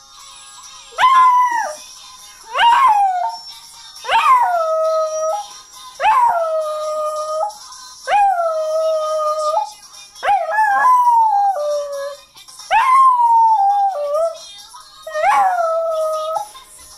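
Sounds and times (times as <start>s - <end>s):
faint music: 0.0s - 16.9s.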